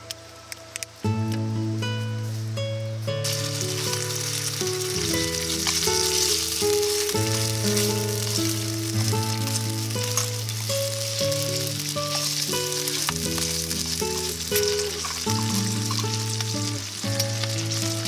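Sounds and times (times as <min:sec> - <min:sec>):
background music of held notes: 0:00.0 - 0:18.0
bacon sizzling in a frying pan: 0:03.2 - 0:18.0.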